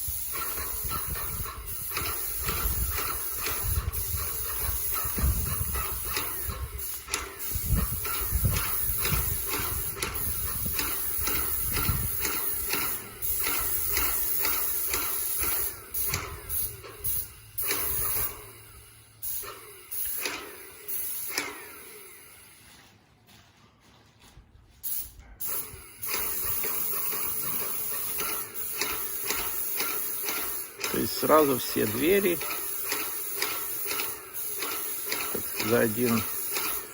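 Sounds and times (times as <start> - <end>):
paint sprayer hissing: 0.0 - 23.0, 24.8 - 36.9.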